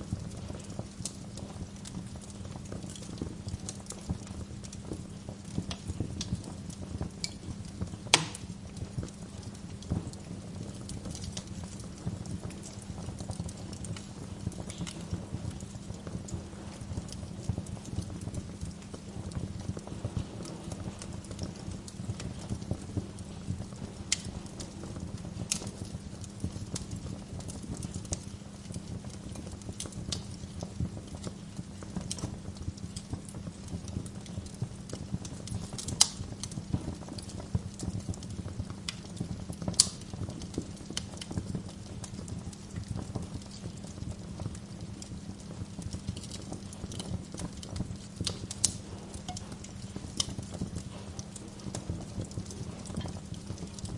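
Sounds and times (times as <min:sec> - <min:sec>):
burning logs popping: 0:00.0 - 0:53.9
low rumble of fire: 0:00.0 - 0:53.9
wood fire crackling: 0:00.0 - 0:53.9.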